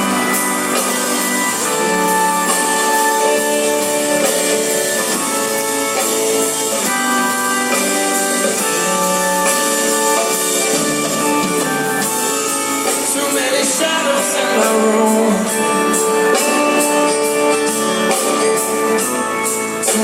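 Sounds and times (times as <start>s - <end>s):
guitar and keyboard chords: 0.0s - 20.0s.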